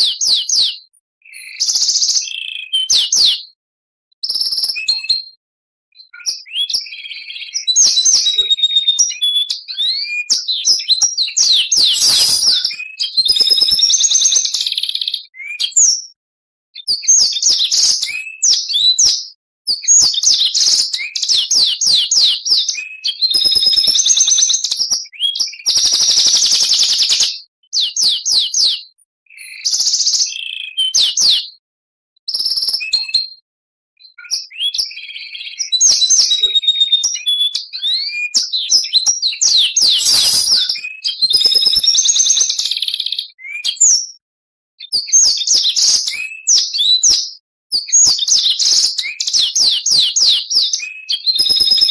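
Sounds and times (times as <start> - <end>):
bird singing: 0.0 - 3.6, 6.0 - 16.2, 16.8 - 31.6, 34.0 - 44.2, 44.8 - 51.9.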